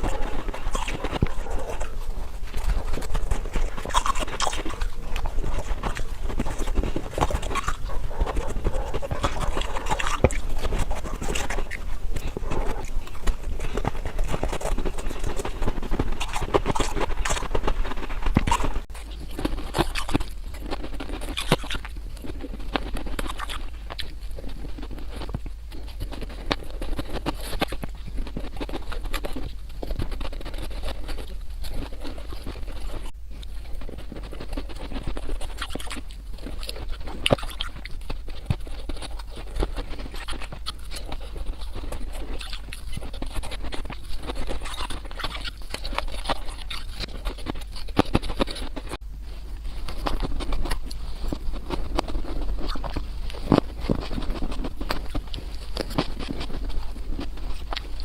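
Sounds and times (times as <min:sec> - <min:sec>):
ice crunching being bitten: 0:00.0 - 0:49.0, 0:49.8 - 0:58.0.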